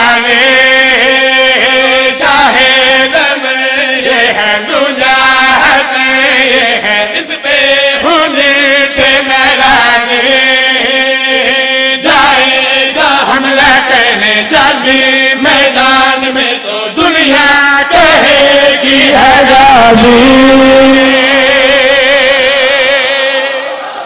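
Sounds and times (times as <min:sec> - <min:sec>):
men singing into a microphone: 0:00.0 - 0:24.0.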